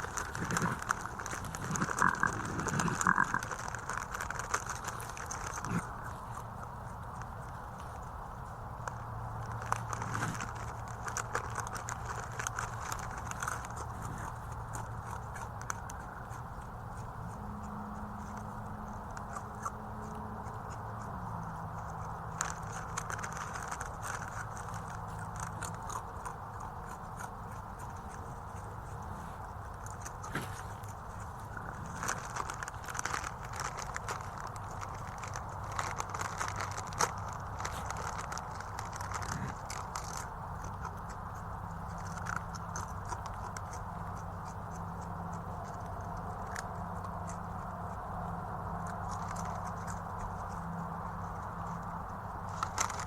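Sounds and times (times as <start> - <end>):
potato chips crunched and chewed: 0.0 - 53.0
steady low hum: 0.0 - 53.0.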